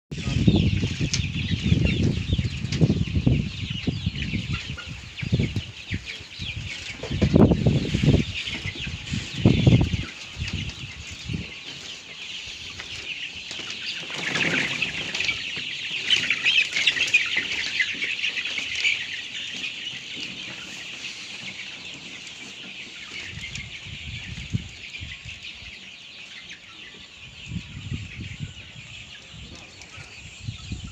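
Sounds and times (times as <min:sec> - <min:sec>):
chicks and ducklings peeping: 0:00.1 - 0:30.9.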